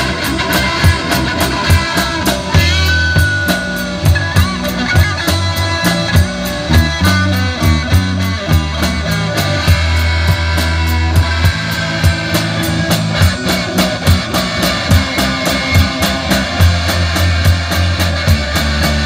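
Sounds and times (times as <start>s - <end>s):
drum kit beat: 0.0s - 19.0s
electric bass: 0.0s - 19.0s
electric guitar: 0.0s - 19.0s.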